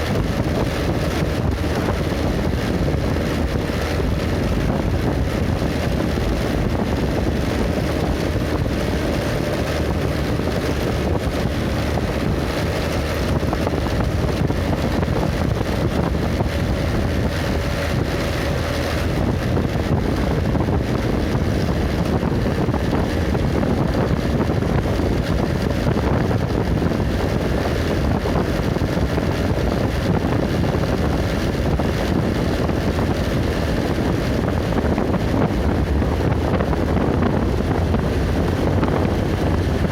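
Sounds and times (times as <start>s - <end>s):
vehicle road and engine noise: 0.0s - 39.9s
wind buffeting microphone: 0.0s - 39.9s.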